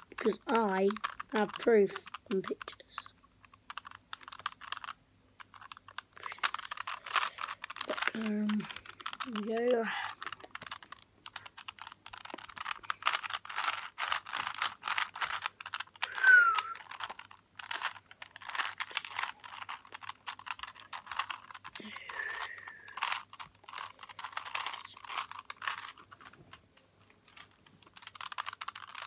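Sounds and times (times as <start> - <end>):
puzzle cube layers clicking: 0.0 - 29.0.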